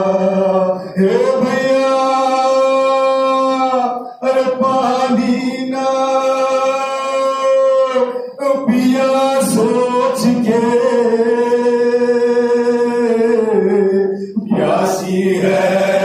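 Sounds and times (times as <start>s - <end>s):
men singing unaccompanied lament: 0.0s - 16.0s.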